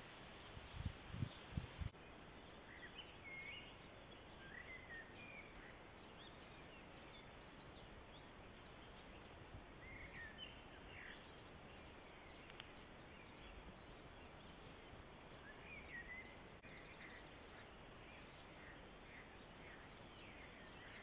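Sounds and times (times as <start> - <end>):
faint steady hiss: 0.0 - 21.0
small birds chirping: 0.4 - 21.0.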